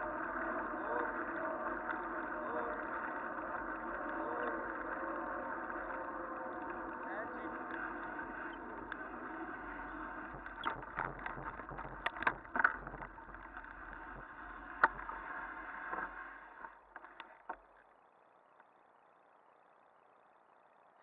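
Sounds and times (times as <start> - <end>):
bike rattling over bumps: 0.0 - 17.6
bicycle clicks: 0.0 - 17.7
bicycle tyres rolling on pavement: 0.0 - 21.0.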